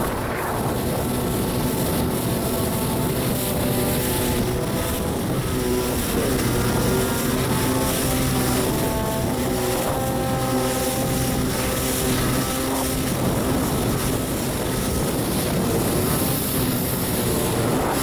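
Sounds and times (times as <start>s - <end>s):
jet ski engine running: 0.0s - 18.0s.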